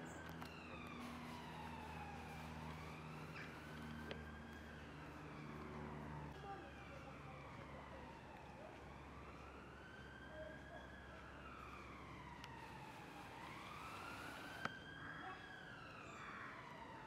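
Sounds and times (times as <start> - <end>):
faint siren wailing: 0.0 - 17.0.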